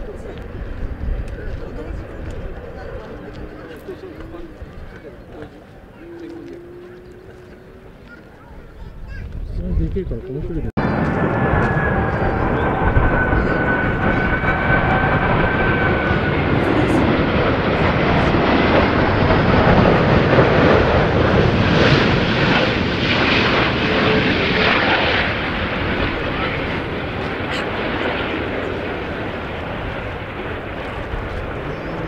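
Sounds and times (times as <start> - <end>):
jet airliner roar passing: 0.0 - 32.0.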